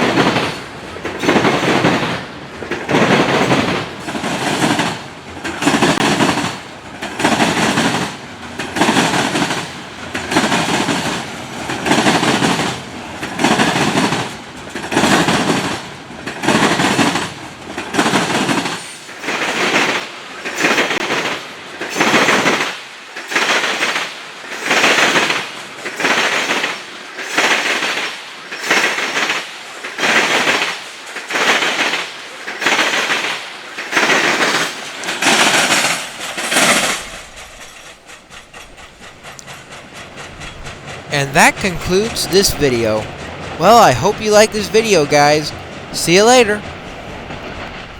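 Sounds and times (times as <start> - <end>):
train wheels clattering on track: 0.0 - 41.1.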